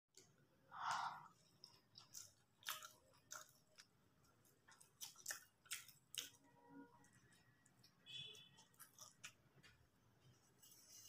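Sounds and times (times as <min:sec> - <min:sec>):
wet chewing and smacking: 0:00.1 - 0:11.0.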